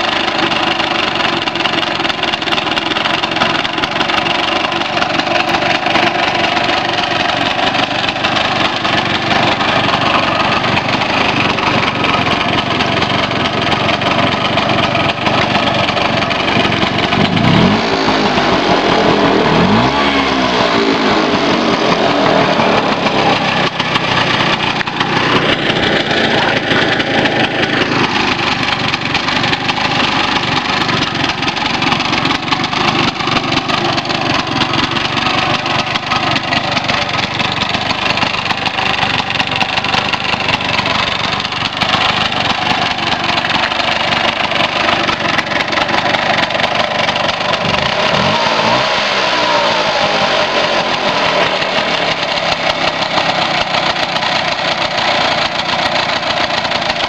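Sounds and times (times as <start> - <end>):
scooter engine idling and revving: 0.0 - 57.0.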